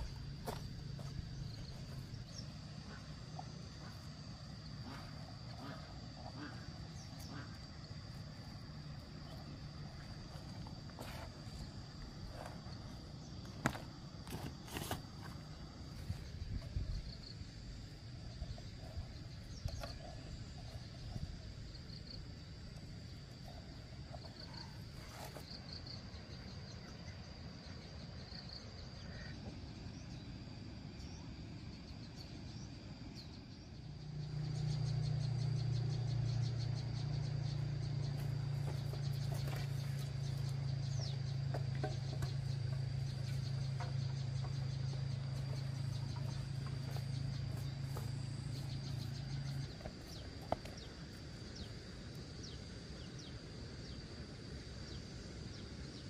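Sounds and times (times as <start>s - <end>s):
insects trilling: 0.0s - 56.0s
low steady hum: 0.0s - 56.0s.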